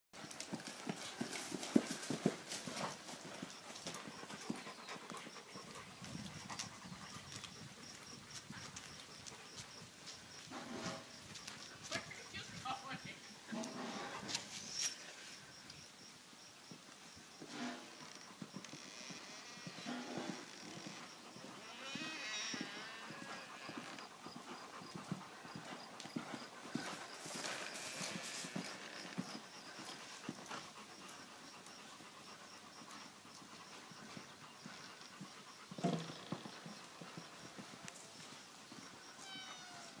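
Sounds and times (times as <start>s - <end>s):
hoofbeats on sand: 0.2s - 12.8s, 17.1s - 39.9s
horse breathing: 0.2s - 15.6s, 17.3s - 39.2s.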